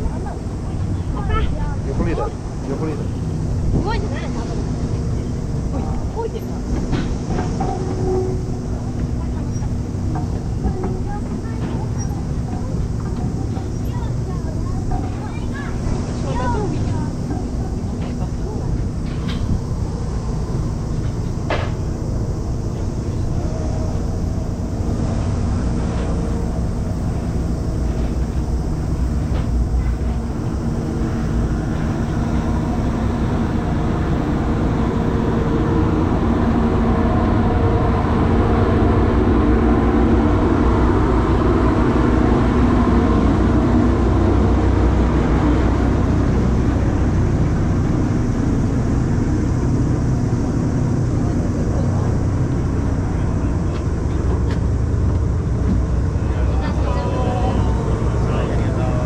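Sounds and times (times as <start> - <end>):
boat engine humming: 0.0 - 59.0
wind: 0.0 - 59.0.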